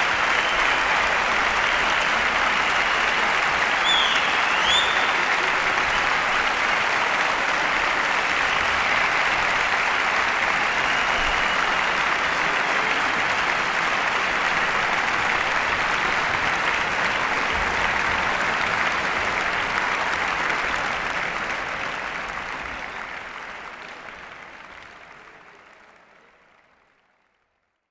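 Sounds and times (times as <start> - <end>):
audience applauding: 0.0 - 27.6.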